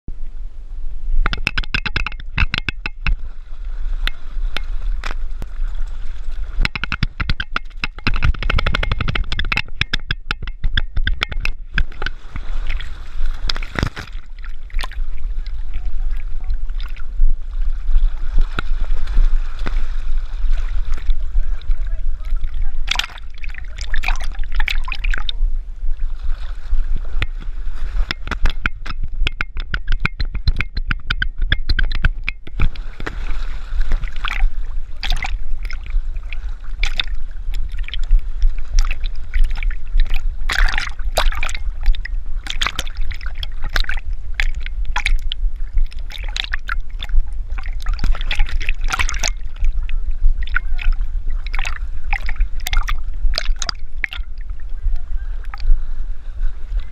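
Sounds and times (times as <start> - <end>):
water sloshing and gurgling: 0.1 - 56.9
low rumble: 2.2 - 56.9
dog paddling splashes: 2.9 - 56.9.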